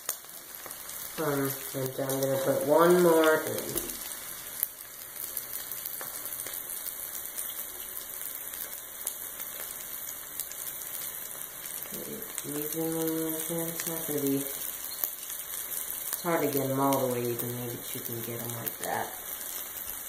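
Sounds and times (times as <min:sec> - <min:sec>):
oil sizzling in a skillet: 0:00.0 - 0:20.0.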